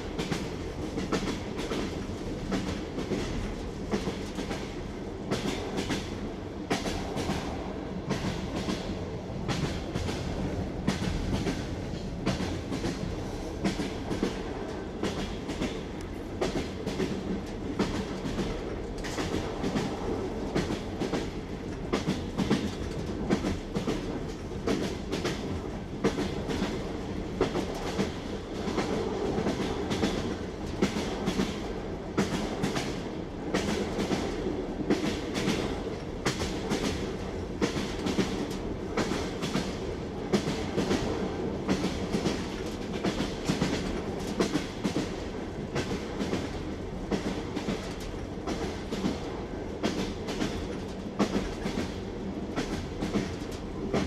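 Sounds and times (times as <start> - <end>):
train wheels clattering: 0.0 - 54.0.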